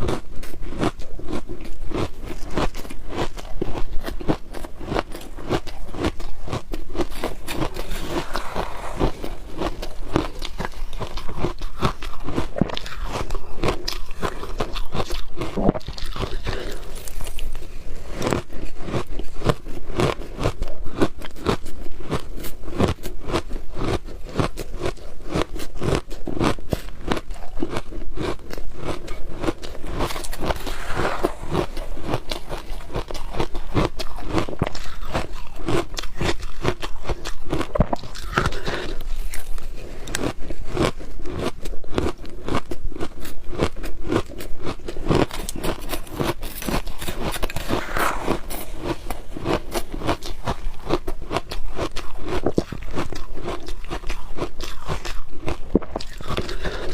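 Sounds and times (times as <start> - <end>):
chewing crunchy ice: 0.0 - 56.9.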